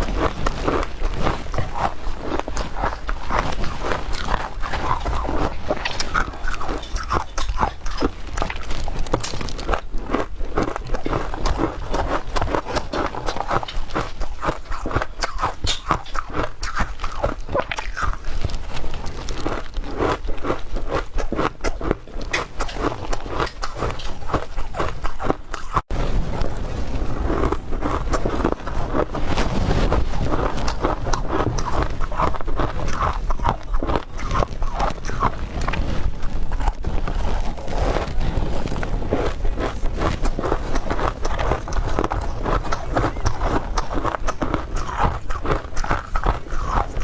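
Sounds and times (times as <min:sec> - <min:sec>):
ice being chewed: 0:00.0 - 0:47.0.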